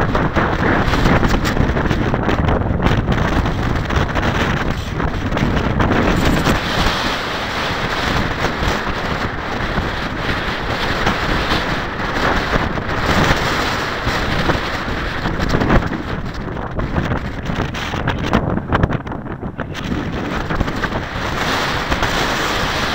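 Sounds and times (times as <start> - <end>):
gusty wind buffeting microphone: 0.0 - 22.9.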